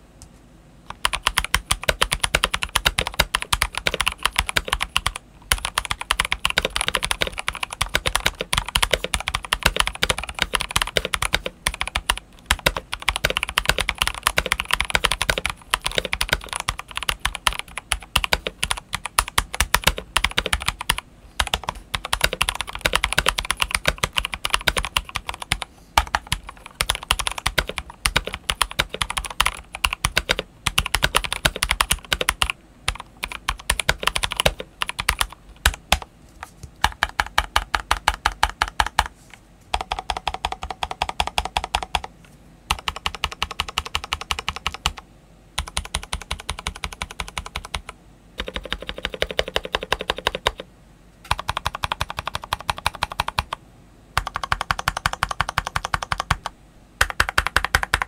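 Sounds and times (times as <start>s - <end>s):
mechanical keyboard typing: 0.9s - 36.1s, 36.8s - 39.1s, 39.7s - 42.1s, 42.7s - 45.0s, 45.6s - 50.7s, 51.3s - 53.6s, 54.2s - 58.0s.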